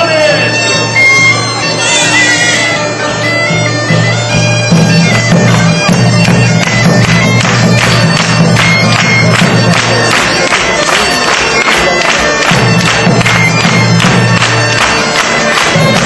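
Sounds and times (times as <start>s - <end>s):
bagpipe melody over drone: 0.0s - 16.0s
sharp percussive beats: 0.0s - 16.0s.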